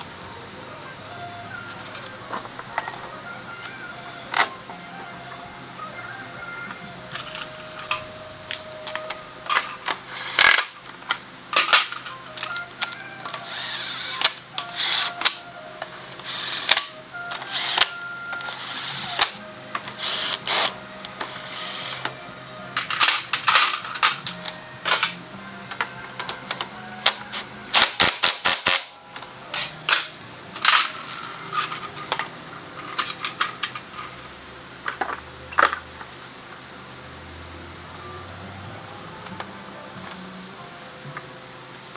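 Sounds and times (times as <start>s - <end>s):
background music: 0.0s - 34.1s, 36.8s - 41.9s.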